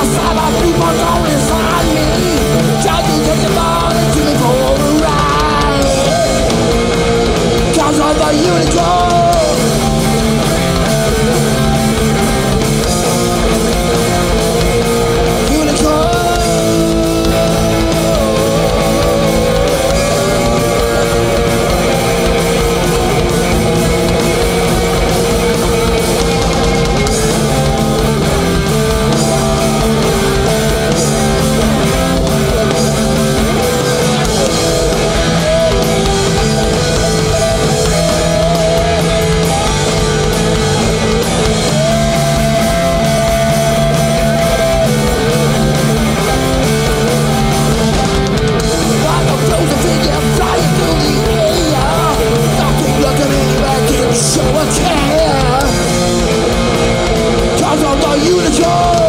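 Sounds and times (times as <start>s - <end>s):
distorted electric guitars: 0.0s - 59.0s
thrash band playing live: 0.0s - 59.0s.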